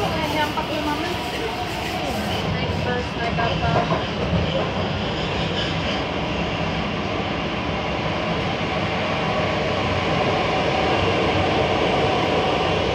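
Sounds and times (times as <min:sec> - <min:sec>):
train running noise inside carriage: 0:00.0 - 0:12.9.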